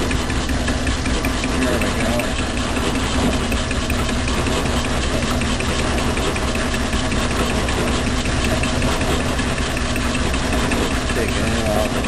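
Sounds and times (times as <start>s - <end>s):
light regular ticking: 0.0s - 12.0s
metal lathe running: 0.0s - 12.0s.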